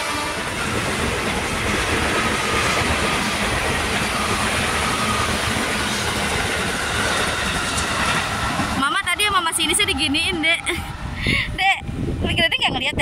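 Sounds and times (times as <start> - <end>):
electric train wheels rattling: 0.0 - 13.0.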